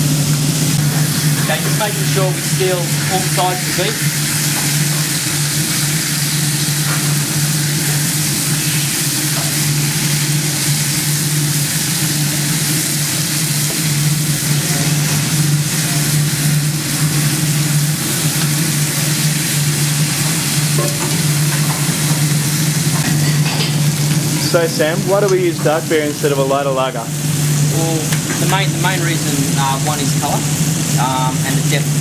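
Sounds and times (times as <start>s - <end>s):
meat sizzling in a frying pan: 0.0s - 32.0s.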